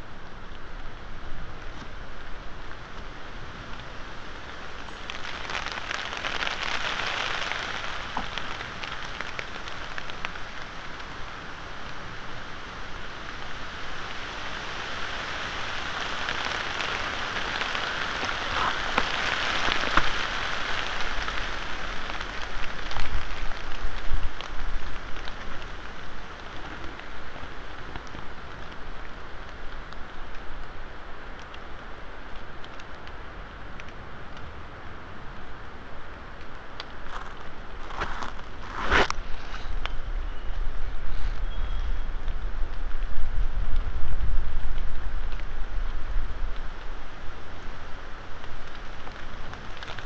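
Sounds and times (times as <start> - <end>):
rain hissing on leaves: 0.0 - 50.0
wind: 0.0 - 50.0.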